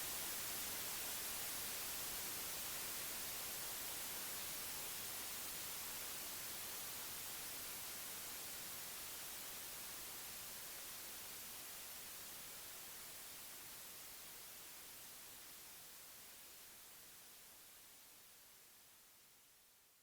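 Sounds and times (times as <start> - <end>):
white noise hiss: 0.0 - 20.0.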